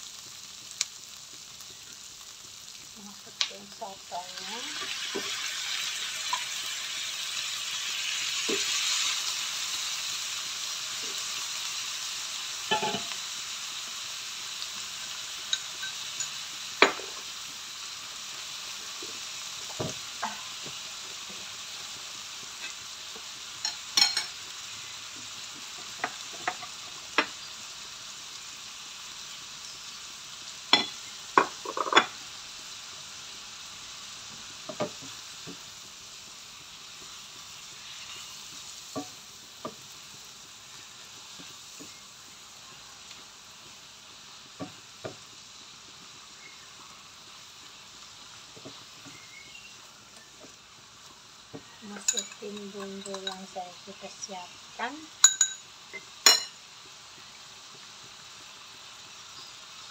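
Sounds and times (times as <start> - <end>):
squid sizzling in hot oil: 0.0 - 59.9.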